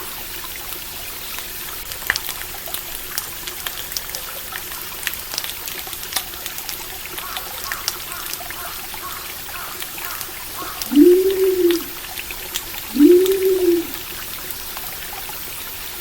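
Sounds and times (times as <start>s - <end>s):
stream water trickling: 0.0s - 16.0s.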